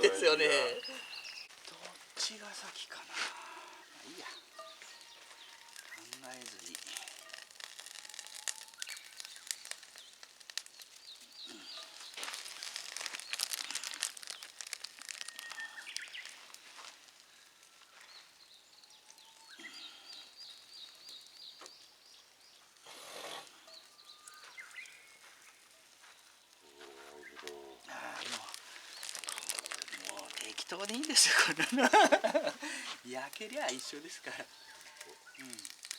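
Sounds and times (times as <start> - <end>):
small birds chirping: 0.0 - 35.9
crackling and rustling: 1.0 - 35.9.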